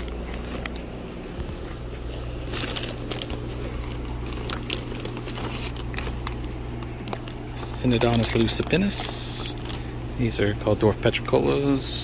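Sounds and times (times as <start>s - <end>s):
plastic bags crinkling: 0.0s - 11.9s
steady low hum: 0.0s - 12.0s.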